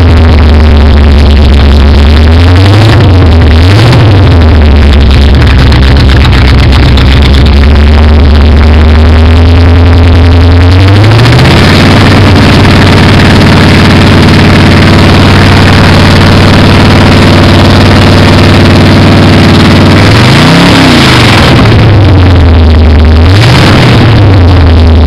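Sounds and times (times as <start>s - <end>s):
race car engine running and revving: 0.0s - 25.0s.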